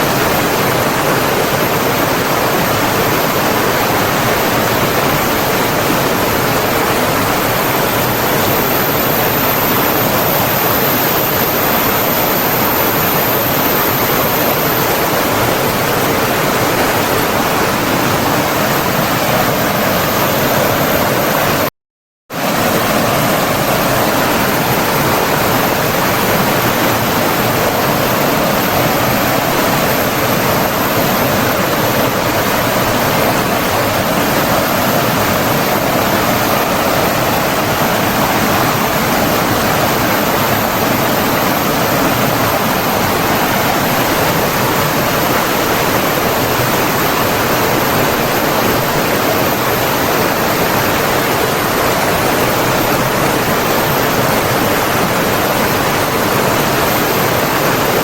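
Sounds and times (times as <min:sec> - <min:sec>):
water rushing: 0:00.0 - 0:21.7, 0:22.3 - 0:58.0.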